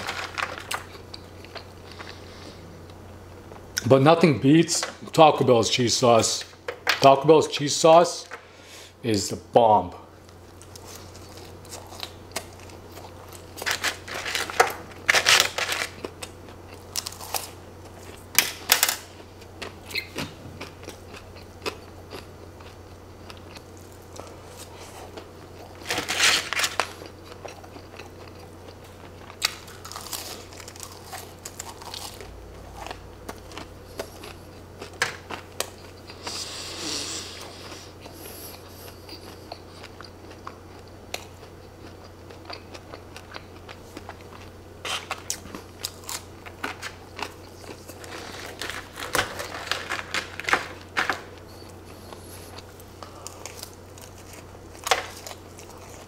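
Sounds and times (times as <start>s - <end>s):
person chewing food: 0.0s - 3.8s, 10.4s - 18.3s, 19.1s - 56.0s.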